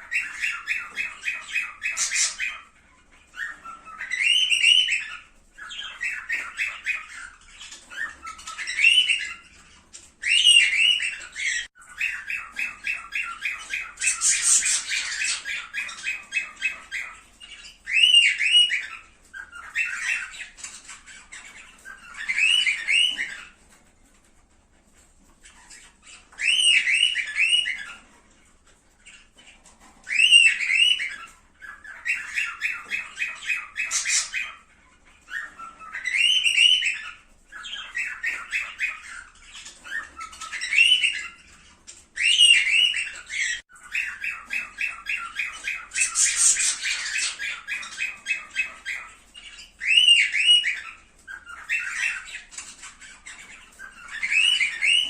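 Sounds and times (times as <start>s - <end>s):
cockatiels calling: 0.0s - 55.0s.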